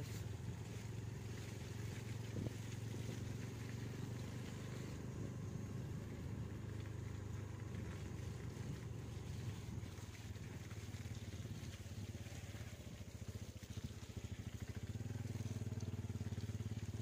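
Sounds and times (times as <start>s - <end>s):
road and wind noise: 0.0s - 17.0s
van engine running: 0.0s - 17.0s.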